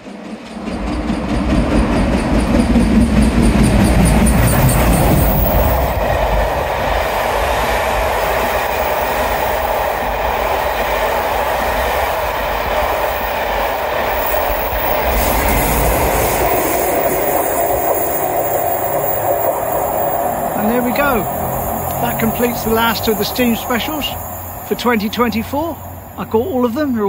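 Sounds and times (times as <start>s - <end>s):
carriage wheels on rails: 0.0s - 27.0s
steam train passing at speed: 0.0s - 27.0s.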